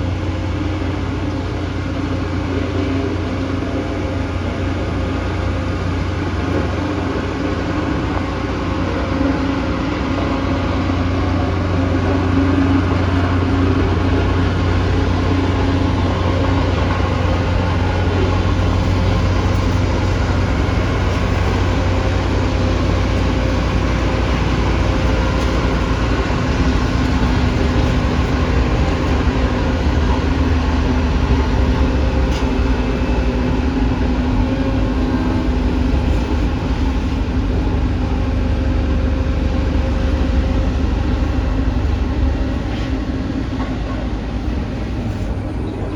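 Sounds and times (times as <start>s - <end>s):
bulldozer diesel engine droning: 0.0s - 45.9s.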